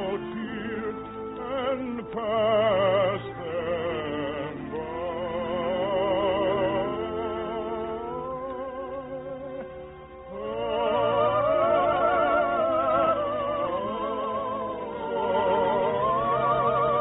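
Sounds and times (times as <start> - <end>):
orchestra playing: 0.0 - 17.0
soprano singing operatic melody: 0.0 - 17.0.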